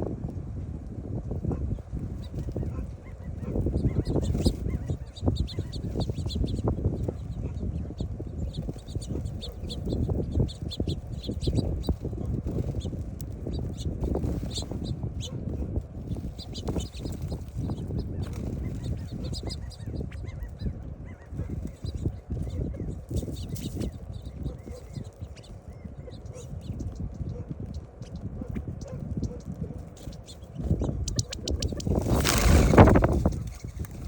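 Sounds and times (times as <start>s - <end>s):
birds chirping: 1.2s - 34.0s.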